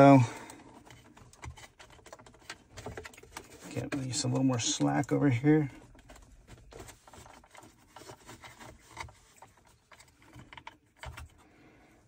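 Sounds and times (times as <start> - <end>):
cable rubbing against plastic: 0.0 - 11.4.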